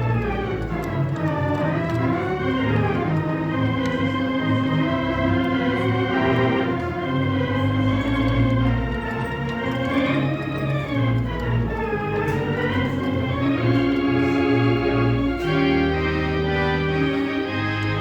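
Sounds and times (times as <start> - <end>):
pipe organ playing chords: 0.0 - 18.0.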